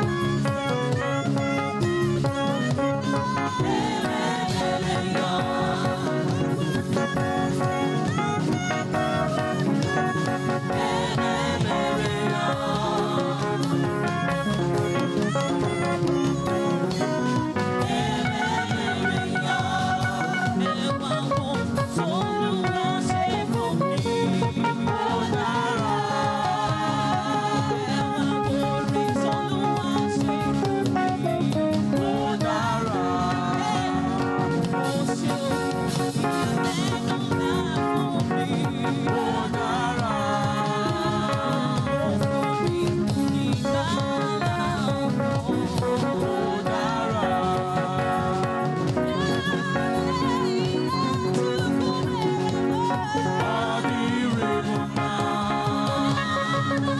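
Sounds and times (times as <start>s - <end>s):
band playing: 0.0s - 56.9s
choir singing gospel: 0.0s - 56.9s
percussion beat: 0.0s - 56.9s.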